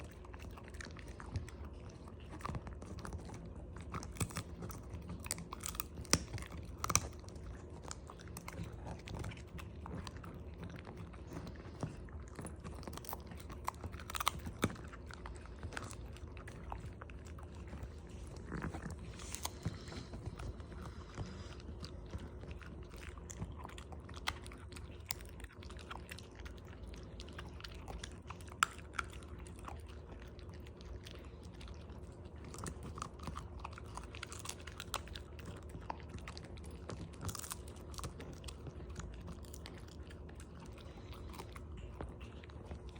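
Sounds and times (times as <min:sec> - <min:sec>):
dog chewing: 0:00.0 - 0:42.9.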